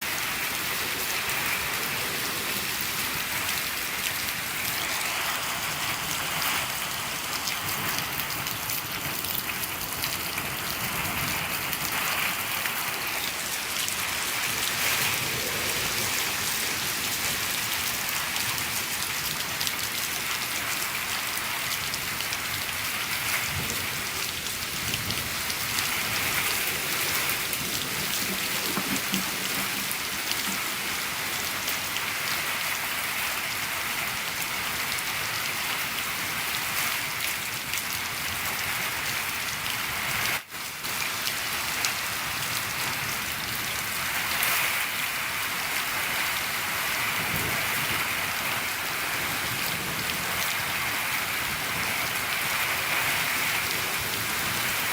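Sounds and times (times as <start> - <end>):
rain on a shed roof: 0.0 - 54.9.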